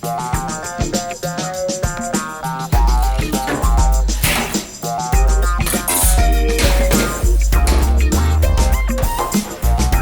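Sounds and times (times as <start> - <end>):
funk music with bass drums guitar: 0.0 - 10.0.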